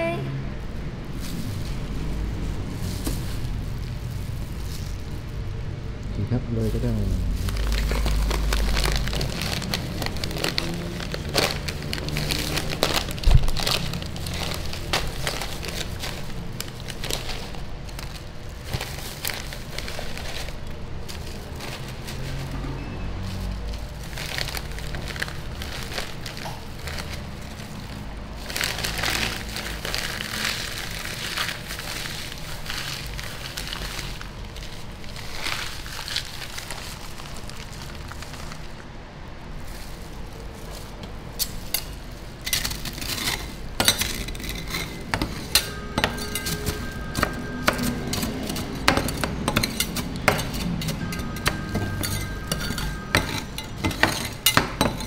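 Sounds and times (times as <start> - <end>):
plastic chip bag crinkling: 0.7 - 55.0.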